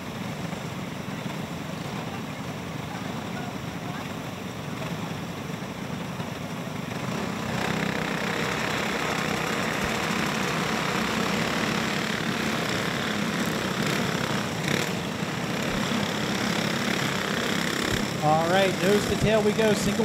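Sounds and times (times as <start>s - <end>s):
go-kart engines passing: 0.0s - 20.0s.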